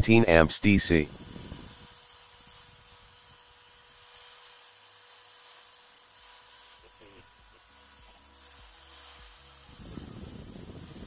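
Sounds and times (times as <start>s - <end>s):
electric drill running: 1.1s - 11.0s.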